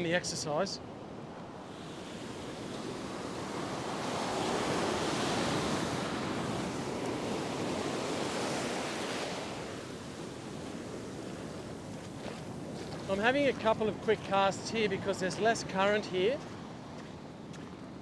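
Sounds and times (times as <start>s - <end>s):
ocean surf breaking on beach: 1.3s - 16.8s.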